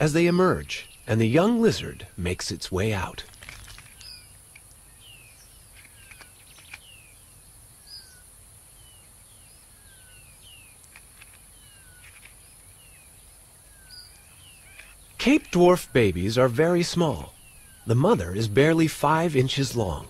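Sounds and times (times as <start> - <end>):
small birds chirping: 0.0 - 20.0
steady high hiss: 0.0 - 20.0.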